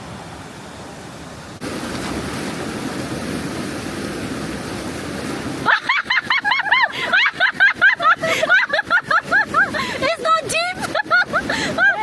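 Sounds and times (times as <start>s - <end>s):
waterfall roaring: 0.4s - 12.0s.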